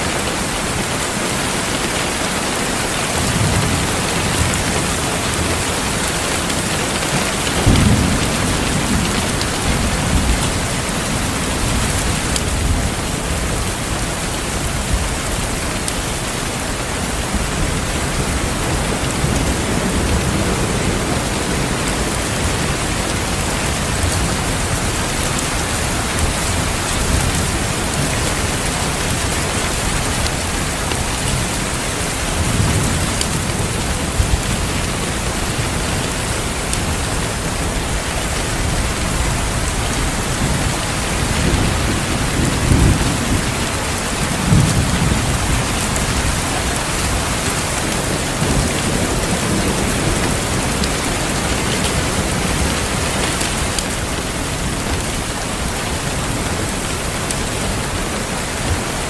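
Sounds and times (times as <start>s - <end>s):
heavy rain: 0.0s - 59.0s
thunder rumbling: 2.6s - 59.0s.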